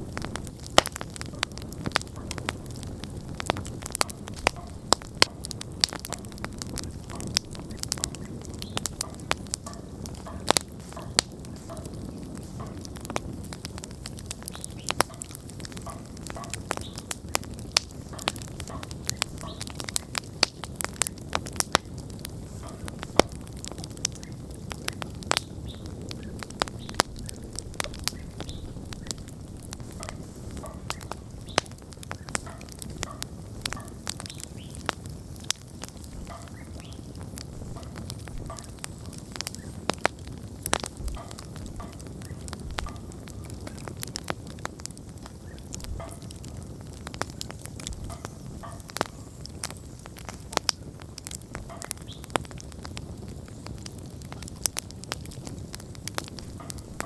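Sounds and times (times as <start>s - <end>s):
campfire pops and crackles: 0.0s - 57.0s
low rush of flames: 0.0s - 57.0s.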